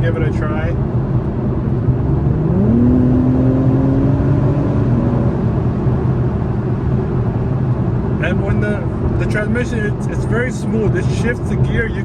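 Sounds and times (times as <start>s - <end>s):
car engine accelerating: 0.0s - 12.0s
road rumble: 0.0s - 12.0s.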